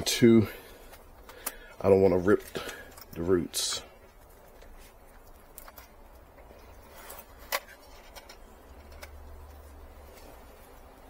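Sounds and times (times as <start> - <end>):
soil and plastic pot rustling: 0.0 - 11.0.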